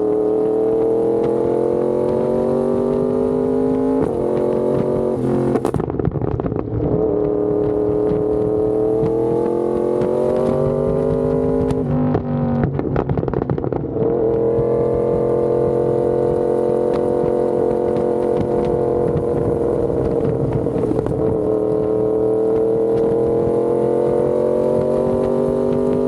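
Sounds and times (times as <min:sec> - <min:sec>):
exhaust crackling pops: 0:00.0 - 0:26.0
motorcycle engine: 0:00.0 - 0:26.0.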